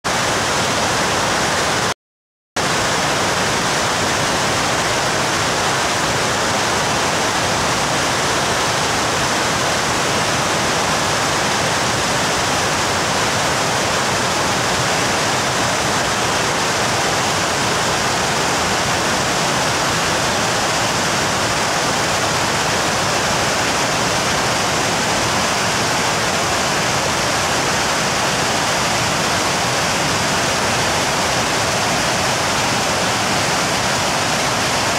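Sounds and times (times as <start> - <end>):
waterfall rushing: 0.1 - 1.9, 2.6 - 34.9.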